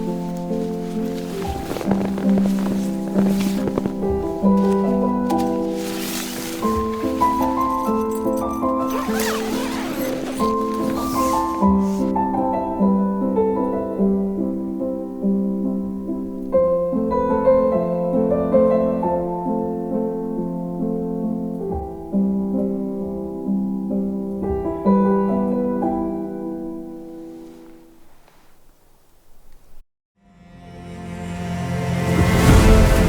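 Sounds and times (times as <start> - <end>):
soft slow solo piano music: 0.0 - 28.2.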